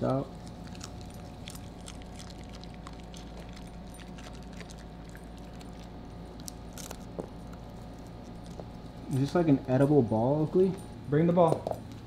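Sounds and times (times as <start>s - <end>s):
puppy chewing with crunches: 0.0s - 10.0s
low room hum: 0.0s - 12.0s.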